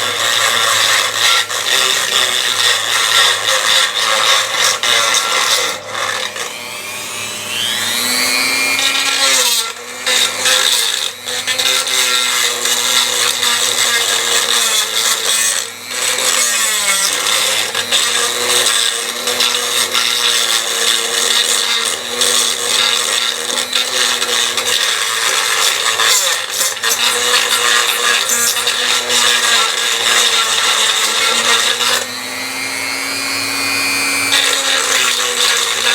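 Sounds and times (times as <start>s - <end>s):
electric drill whining: 0.0s - 35.9s.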